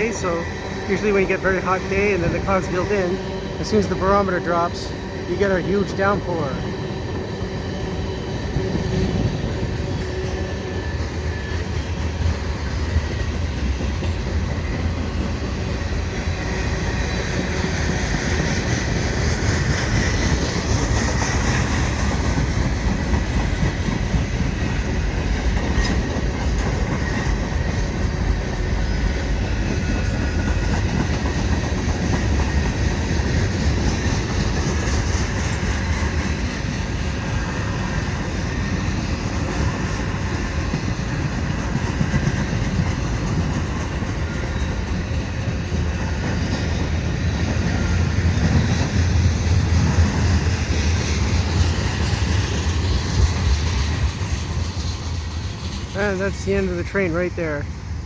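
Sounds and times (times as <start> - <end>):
freight train rumbling past: 0.0 - 58.0
wheels clacking over rail joints: 6.7 - 57.2.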